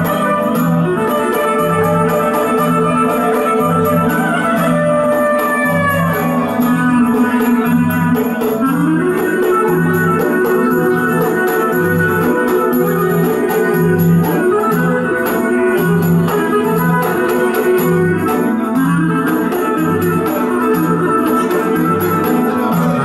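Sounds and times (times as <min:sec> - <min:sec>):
folk dance clarinet melody: 0:00.0 - 0:23.0
frame drum: 0:00.0 - 0:23.0.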